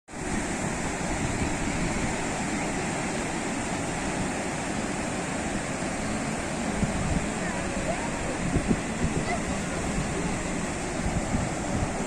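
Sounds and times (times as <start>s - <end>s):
sea waves washing in: 0.1s - 12.0s.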